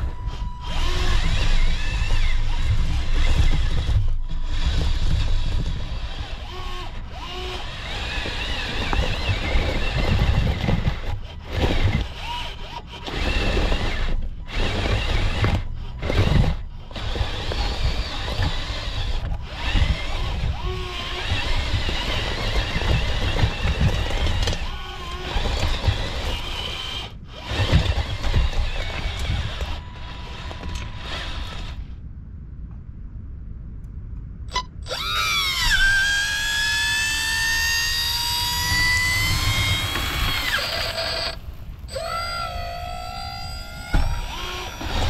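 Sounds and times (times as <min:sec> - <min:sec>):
small electric motors whining: 0:00.0 - 0:32.0, 0:34.5 - 0:45.0.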